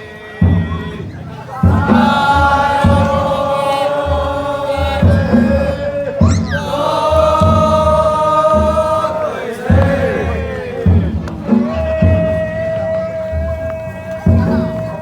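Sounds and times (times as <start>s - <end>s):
people chanting in held notes: 0.0s - 15.0s
large drum beating: 0.4s - 15.0s.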